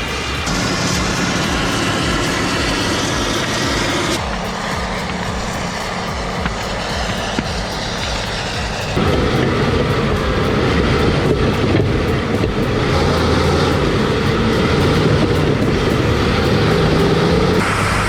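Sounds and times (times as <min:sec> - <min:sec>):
heavy earthmoving machine running: 0:00.0 - 0:18.0.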